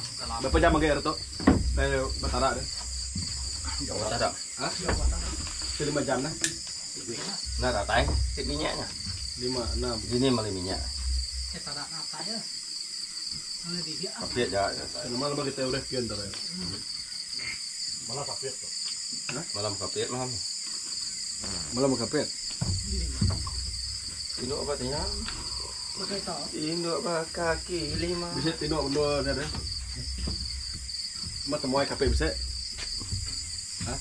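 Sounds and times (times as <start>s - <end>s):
night insects chorus: 0.0s - 34.0s.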